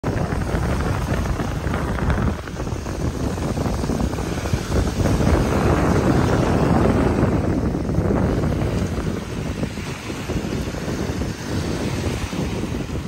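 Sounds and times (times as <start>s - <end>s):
waves washing up pebble beach: 0.0s - 13.0s
wind buffeting microphone: 0.0s - 13.0s.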